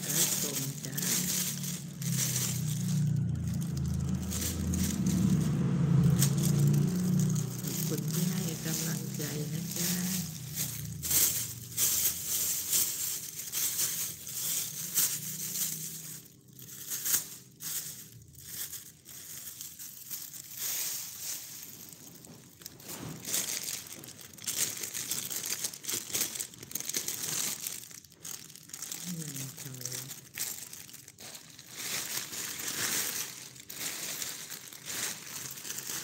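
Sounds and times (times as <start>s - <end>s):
plastic bag crinkling: 0.0s - 36.0s.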